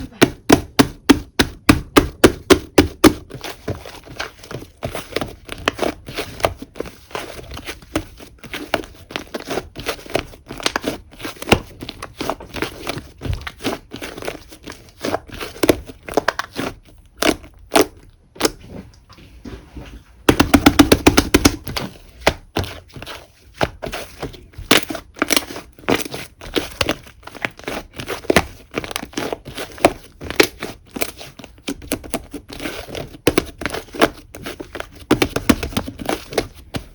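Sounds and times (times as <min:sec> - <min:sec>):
slime squished by hand: 0:00.0 - 0:18.9, 0:20.3 - 0:36.9.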